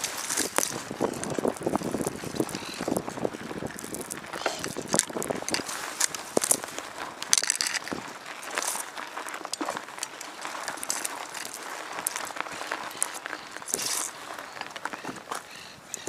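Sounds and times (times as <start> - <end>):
footsteps crunching on dry ground: 0.0 - 16.0
light outdoor hiss: 0.0 - 16.0.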